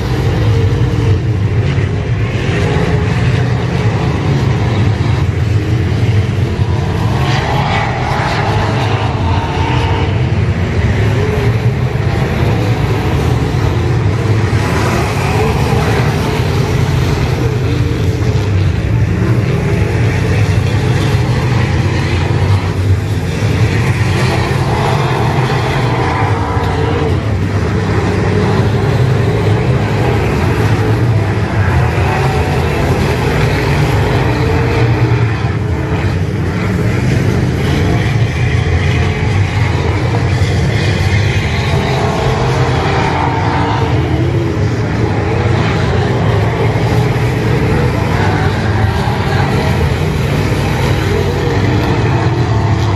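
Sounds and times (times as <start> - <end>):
race car engines roaring: 0.0 - 52.9.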